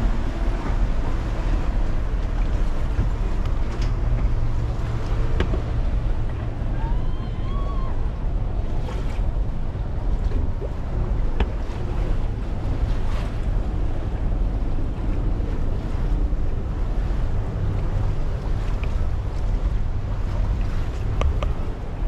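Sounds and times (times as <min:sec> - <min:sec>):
water rushing along boat hull: 0:00.0 - 0:22.0
wind buffeting microphone: 0:00.0 - 0:22.0.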